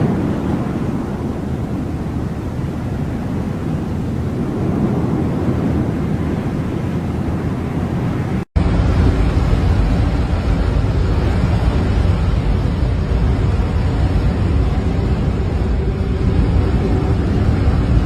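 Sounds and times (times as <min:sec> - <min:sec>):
rough sea noise: 0:00.0 - 0:18.0
wind buffeting microphone: 0:00.0 - 0:18.0.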